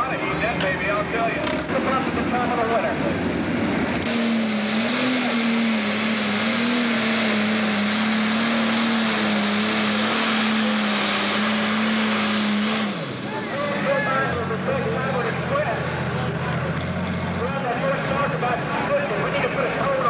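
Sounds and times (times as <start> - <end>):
diesel engine running flat out: 0.0 - 20.0.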